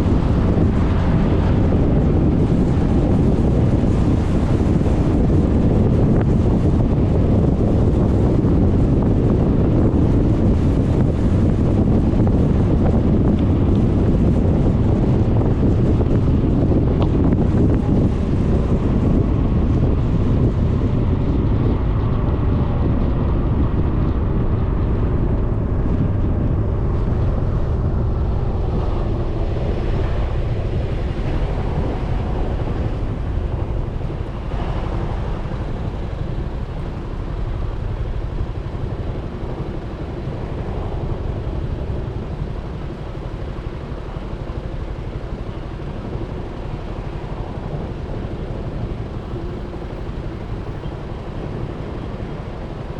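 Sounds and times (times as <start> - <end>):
scooter road and engine noise: 0.0 - 52.9
wind rushing over microphone: 0.0 - 52.9.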